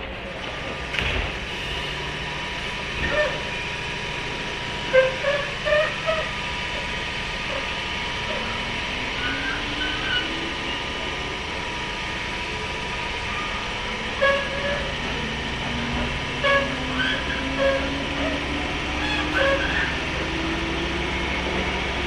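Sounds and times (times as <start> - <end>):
traction motor whine: 0.0 - 22.0
train wheels rumbling on rail: 0.0 - 22.0.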